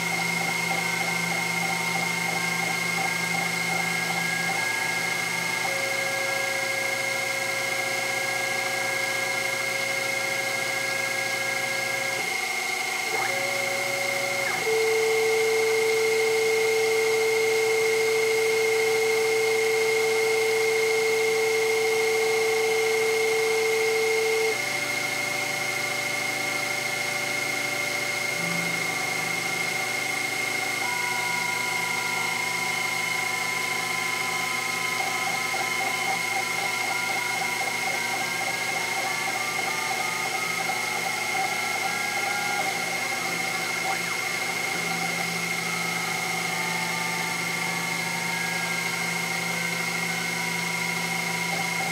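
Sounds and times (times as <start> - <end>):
mill spindle cutting: 0.0 - 51.9
motors whining: 0.0 - 51.9.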